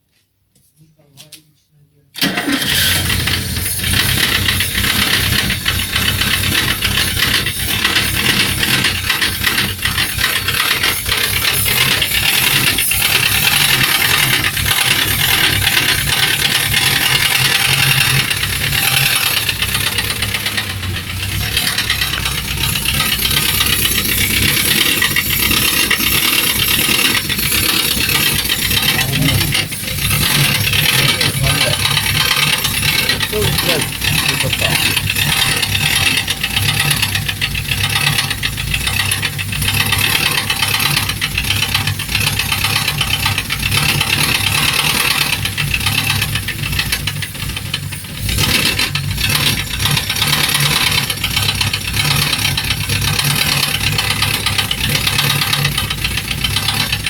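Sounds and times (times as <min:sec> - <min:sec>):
engine running with fast knock: 0:02.2 - 0:57.0.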